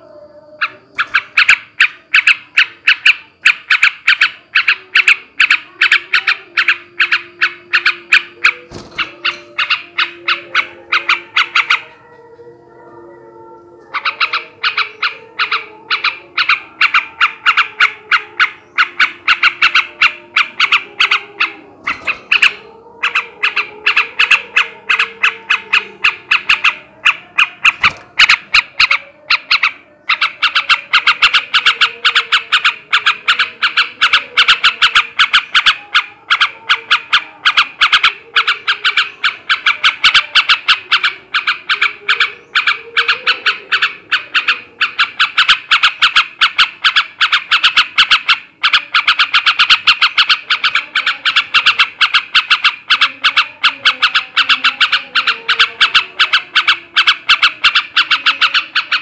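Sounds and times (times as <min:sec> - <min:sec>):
bulbul chattering call: 0:00.6 - 0:12.1, 0:13.8 - 0:59.0.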